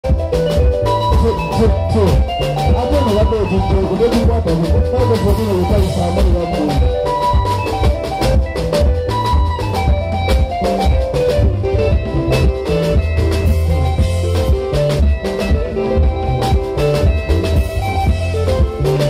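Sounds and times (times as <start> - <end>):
bass guitar line: 0.0 - 19.0
drum kit steady beat: 0.0 - 19.0
picked electric guitar runs: 0.0 - 19.0.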